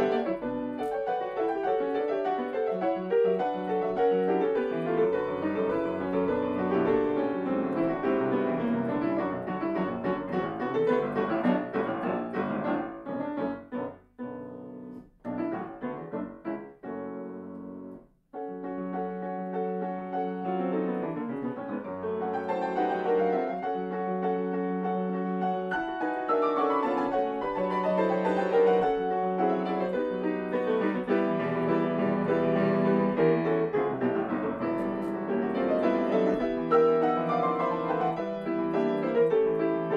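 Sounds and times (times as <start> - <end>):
solo grand piano: 0.0 - 39.9.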